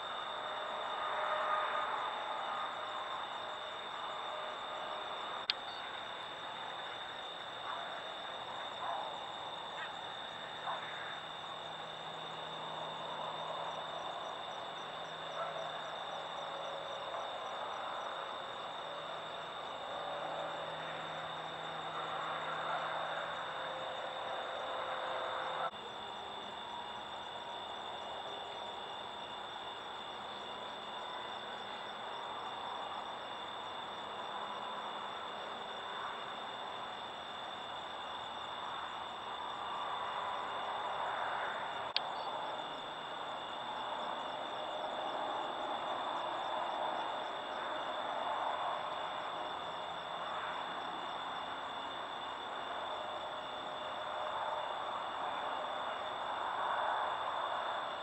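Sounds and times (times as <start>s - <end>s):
crickets trilling: 0.0s - 58.0s
insect hiss: 0.0s - 58.0s.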